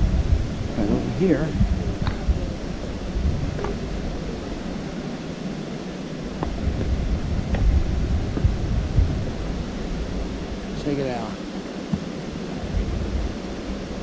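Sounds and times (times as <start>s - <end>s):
steady rushing noise: 0.0s - 14.0s
wind rumbling on microphone: 0.0s - 14.0s.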